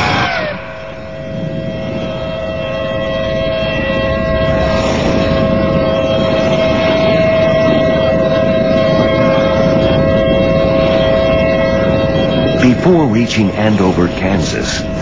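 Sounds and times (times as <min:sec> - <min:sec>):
heavy wind rumble: 0:00.0 - 0:15.0
warning siren steady tone: 0:00.0 - 0:15.0.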